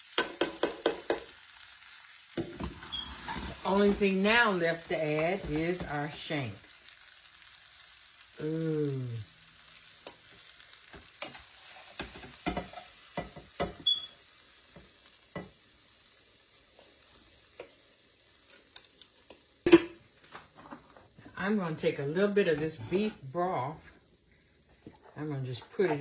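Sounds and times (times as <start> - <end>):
meat sizzling in frying pan: 0.0 - 25.9.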